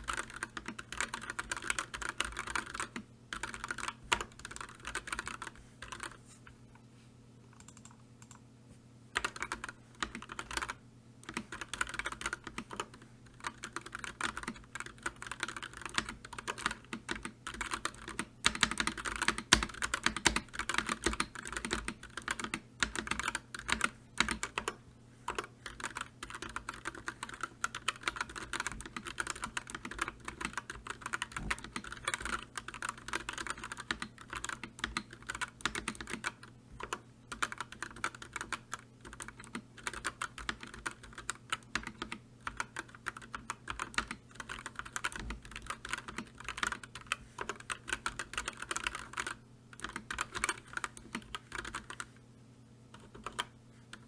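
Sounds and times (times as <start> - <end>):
fast typing on keyboard: 0.0 - 6.2, 7.6 - 8.4, 9.2 - 52.1, 53.0 - 54.0
faint low hum: 0.0 - 54.0.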